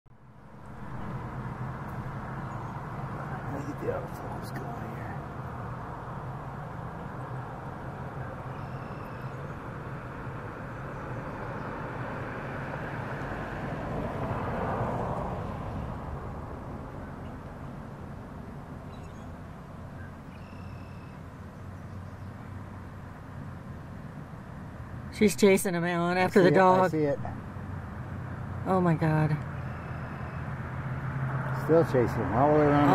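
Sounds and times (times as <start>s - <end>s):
road traffic hum: 0.1s - 32.9s
vehicle passing: 0.2s - 20.3s, 21.0s - 32.9s.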